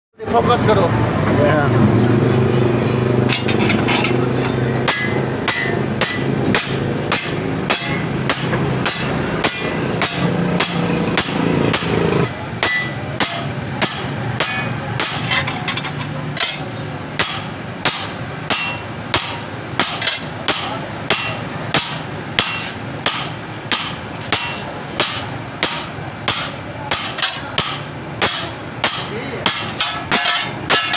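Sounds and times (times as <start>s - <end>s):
hammer striking chisel on metal: 3.2s - 30.9s.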